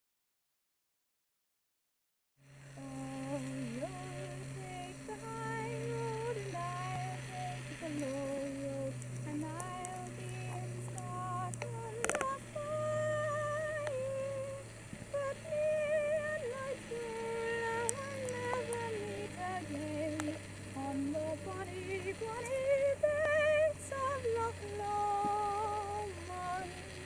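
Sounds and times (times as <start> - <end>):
gimbal noise hum: 2.4 - 27.0
woman singing unaccompanied: 2.8 - 27.0.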